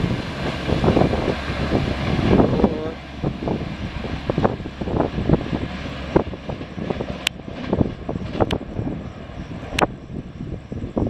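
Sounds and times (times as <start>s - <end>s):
approaching train rumble: 0.0s - 11.0s.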